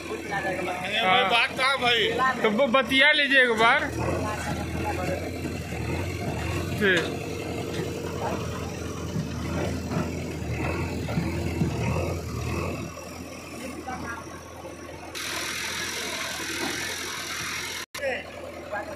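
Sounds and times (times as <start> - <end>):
diesel engines idling: 0.0 - 18.9.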